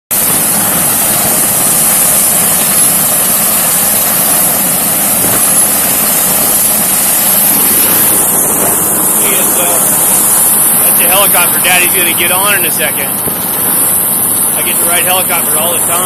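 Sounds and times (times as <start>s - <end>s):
helicopter engine and rotor noise: 0.1s - 16.0s.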